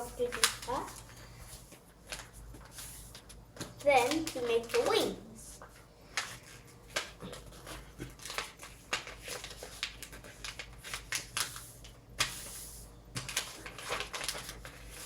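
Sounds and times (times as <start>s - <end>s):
paper crinkling and tapping: 0.0s - 15.0s
paper rustling: 0.0s - 15.0s.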